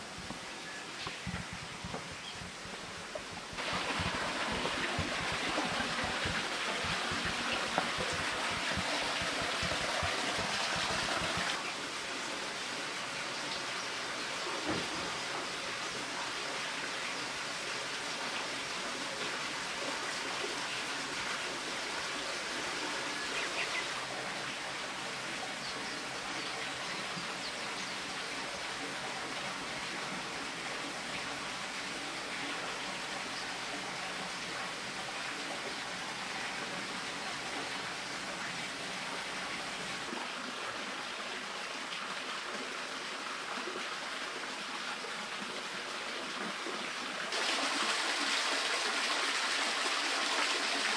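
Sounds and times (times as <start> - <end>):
spring water running and splashing: 0.0 - 50.9.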